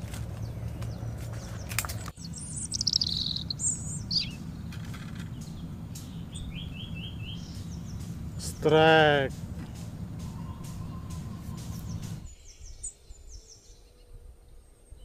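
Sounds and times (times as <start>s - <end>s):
low hum: 0.0s - 12.3s
wild birds calling: 0.0s - 12.3s.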